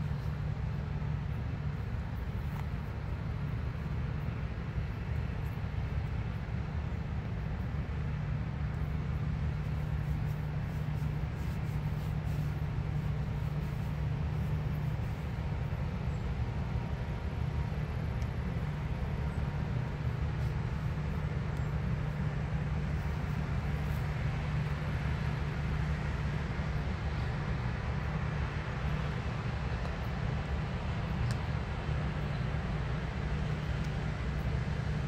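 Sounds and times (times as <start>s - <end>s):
combine harvester engine droning: 0.0s - 35.0s.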